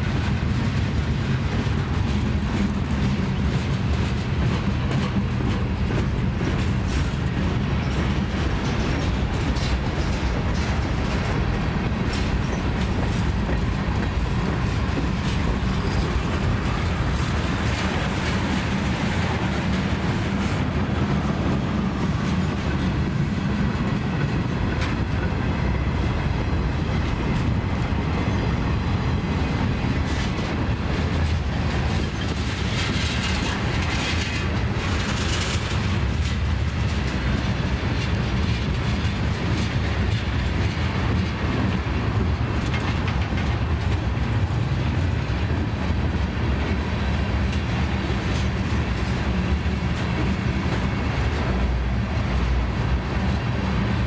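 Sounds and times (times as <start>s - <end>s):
freight train rumble: 0.0s - 54.0s
train wheels clacking over rail joints: 0.0s - 54.0s.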